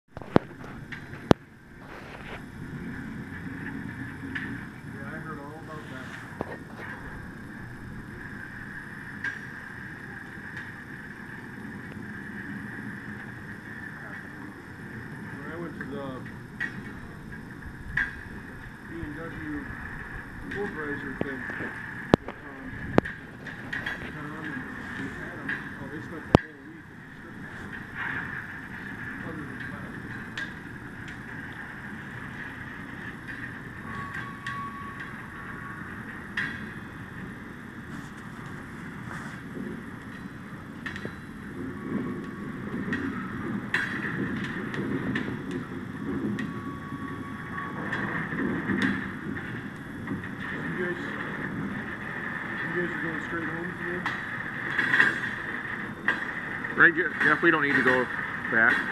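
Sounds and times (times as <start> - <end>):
railway car rolling rumble: 0.1 - 58.9
steady hiss: 0.1 - 58.9.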